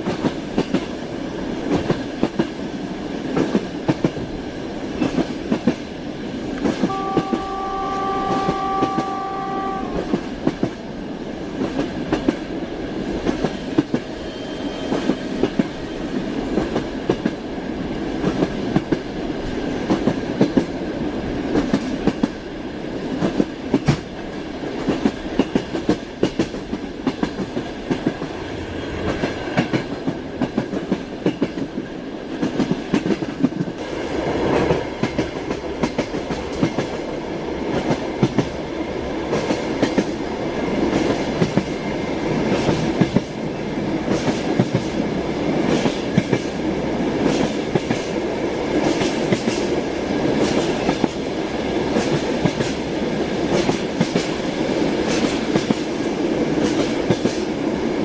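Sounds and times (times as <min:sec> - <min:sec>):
train rumble: 0:00.0 - 0:58.0
train wheels clickety-clack: 0:00.0 - 0:58.0.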